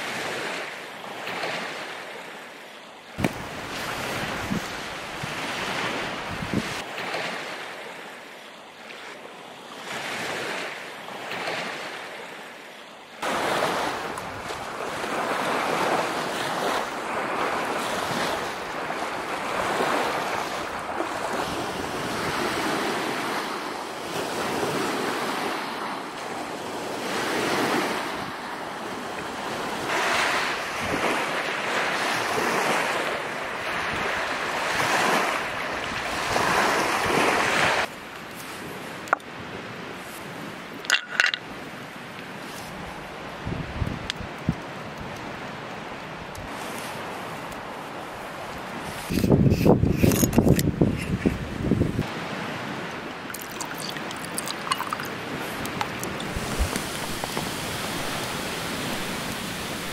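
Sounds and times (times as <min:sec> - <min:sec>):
lake waves washing onto shore: 0:00.0 - 0:59.9
wind: 0:00.0 - 0:59.9.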